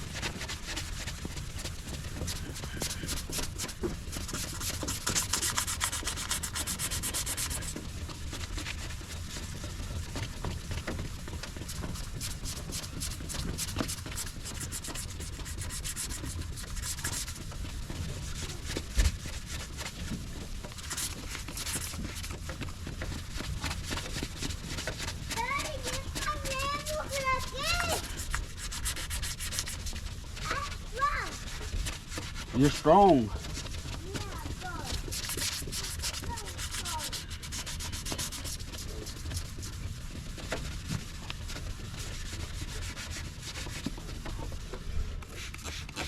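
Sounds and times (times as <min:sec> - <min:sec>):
sandpaper scrubbing plastic: 0:00.0 - 0:46.0.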